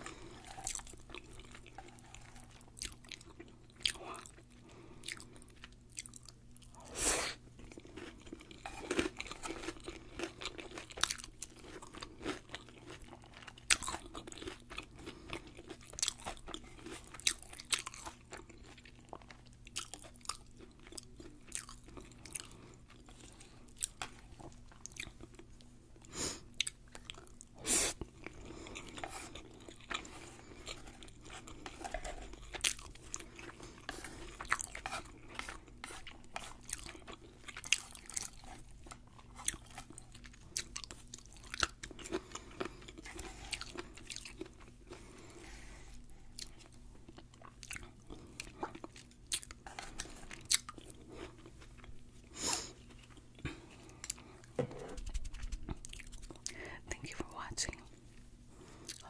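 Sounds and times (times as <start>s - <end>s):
crunching fried food: 0.0s - 45.4s, 46.0s - 56.6s.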